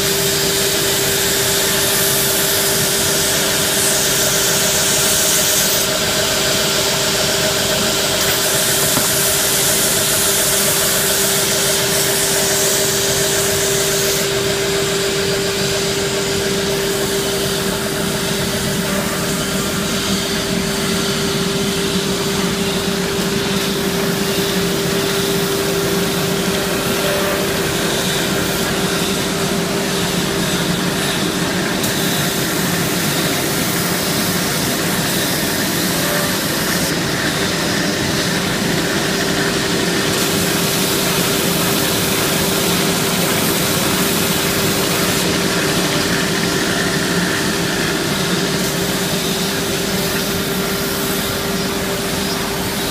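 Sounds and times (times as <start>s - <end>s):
machine drone with hum: 0.0s - 52.9s
sanding belts hissing: 0.0s - 52.9s.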